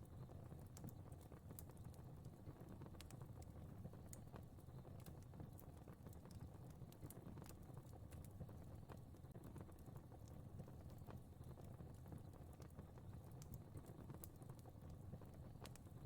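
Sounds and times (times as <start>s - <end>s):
low rumble of burning flames: 0.0s - 16.0s
fire crackling: 0.4s - 16.0s.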